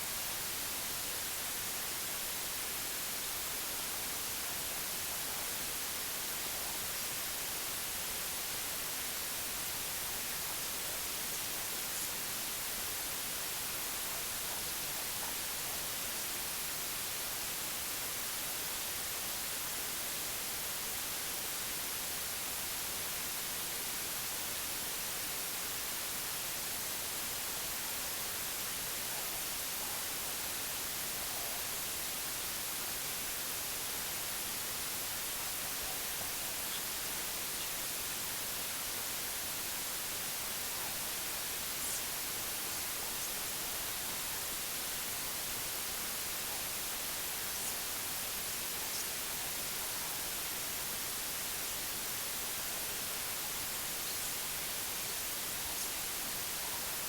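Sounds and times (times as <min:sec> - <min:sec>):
white-noise hiss: 0:00.0 - 0:57.0.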